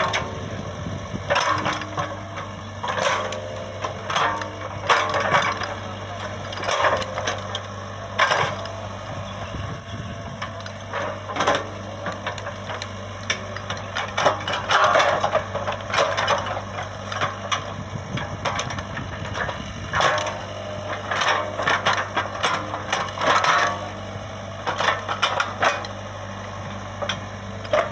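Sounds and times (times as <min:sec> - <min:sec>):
excavator engine humming: 0:00.0 - 0:27.9.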